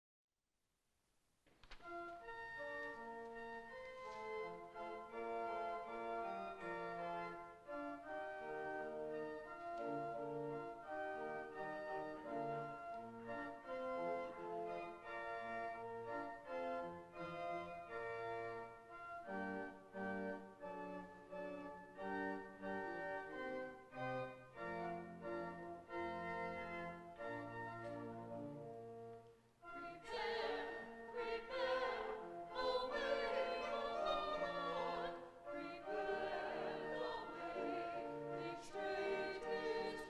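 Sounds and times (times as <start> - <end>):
church organ playing chords: 2.2 - 40.0.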